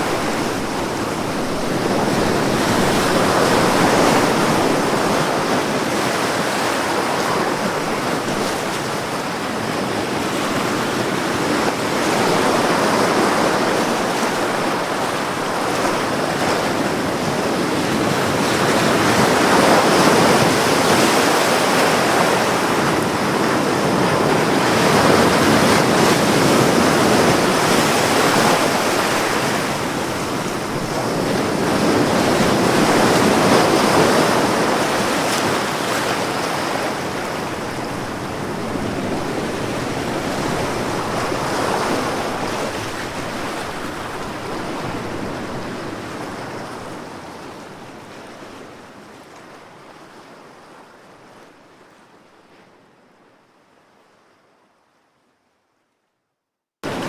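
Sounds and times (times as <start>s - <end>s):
ocean waves washing onto shore: 0.0s - 51.6s.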